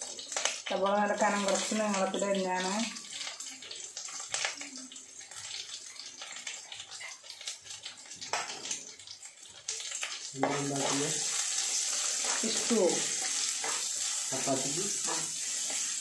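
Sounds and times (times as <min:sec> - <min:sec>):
onions sizzling in a pot: 0:00.0 - 0:16.0.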